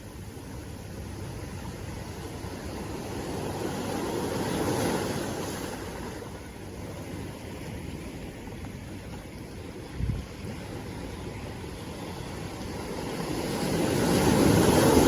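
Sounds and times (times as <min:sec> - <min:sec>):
sea waves: 0:00.0 - 0:15.0.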